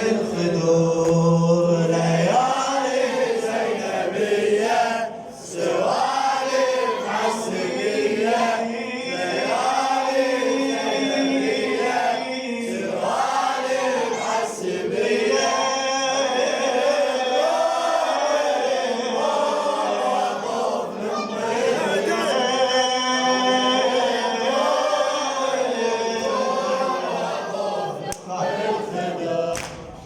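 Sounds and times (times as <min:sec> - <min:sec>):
men chanting a lament in chorus: 0:00.0 - 0:29.9.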